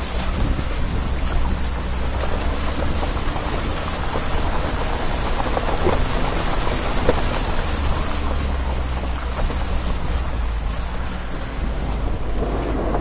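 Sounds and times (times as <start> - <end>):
low engine hum: 0.0 - 13.0
water splashing around wheels: 0.0 - 13.0.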